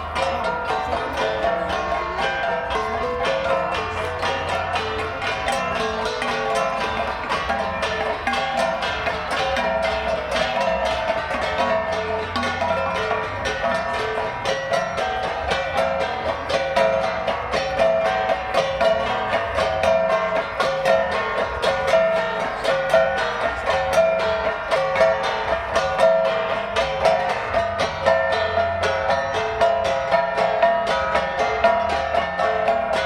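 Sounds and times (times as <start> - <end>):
gong ensemble playing: 0.0 - 33.0.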